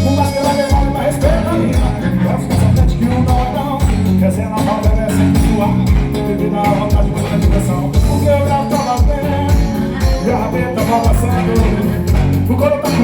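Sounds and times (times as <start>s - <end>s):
heavy bass beat: 0.0s - 13.0s
loud dance music: 0.0s - 13.0s.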